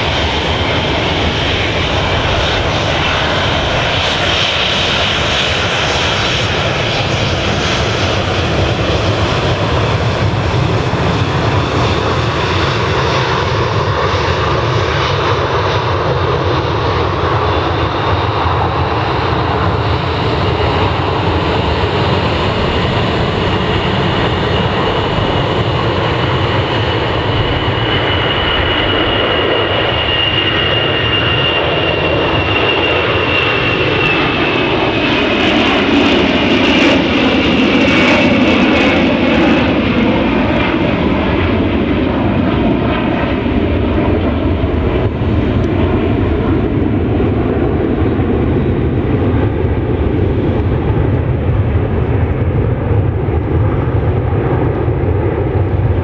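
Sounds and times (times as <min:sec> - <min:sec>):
jet aircraft taking off: 0:00.0 - 0:56.0.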